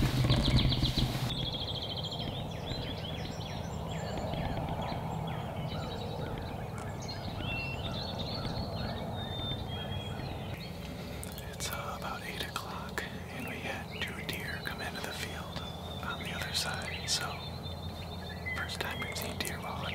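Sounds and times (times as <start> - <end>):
low outdoor background noise: 0.0 - 19.9
wild birds chirping: 0.0 - 19.9.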